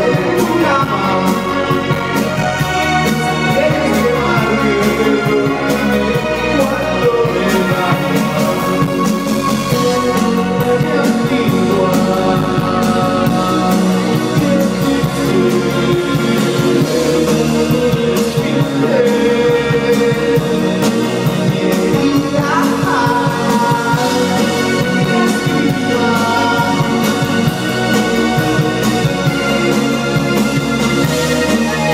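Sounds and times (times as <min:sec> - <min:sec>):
person singing: 0:00.0 - 0:30.1, 0:31.1 - 0:31.9
live rock band playing: 0:00.0 - 0:31.9.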